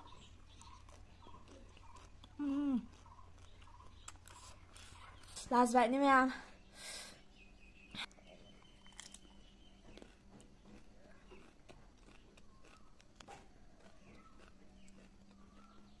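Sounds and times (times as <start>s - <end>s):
wet crunching of chewing food: 0.0s - 5.5s, 8.0s - 16.0s.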